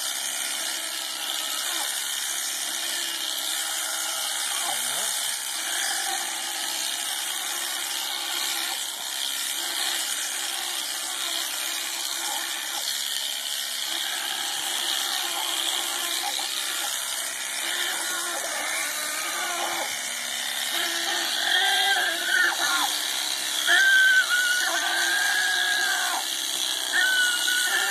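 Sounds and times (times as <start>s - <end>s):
electric shears clipping fleece: 0.0s - 27.9s.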